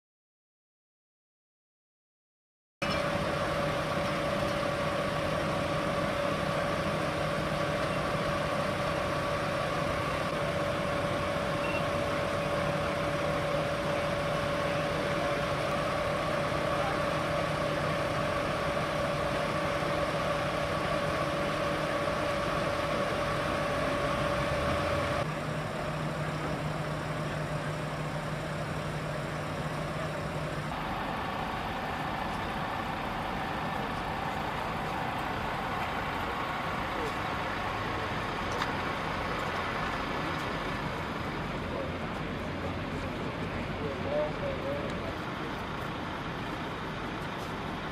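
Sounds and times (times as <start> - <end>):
engine whining over low hum: 2.8 - 47.9.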